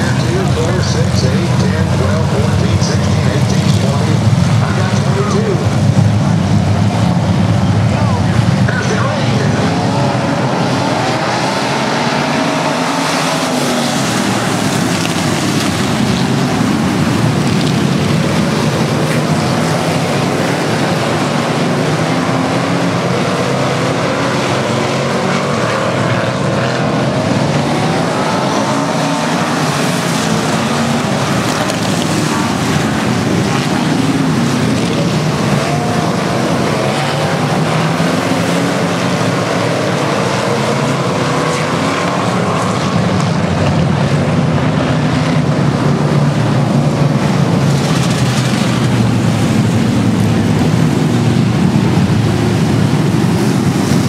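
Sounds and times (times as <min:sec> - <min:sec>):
race car engines at full throttle: 0:00.0 - 0:54.0.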